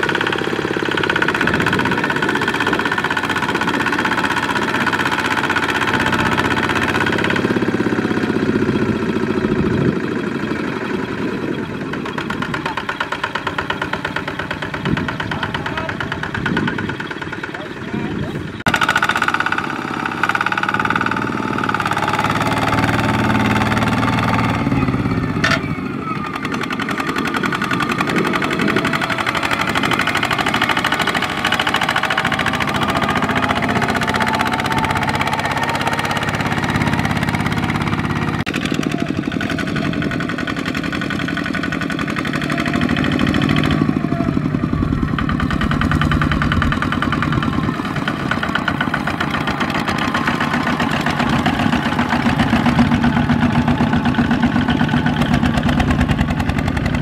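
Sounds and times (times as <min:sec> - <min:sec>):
diesel tractor engine knocking: 0:00.0 - 0:57.0.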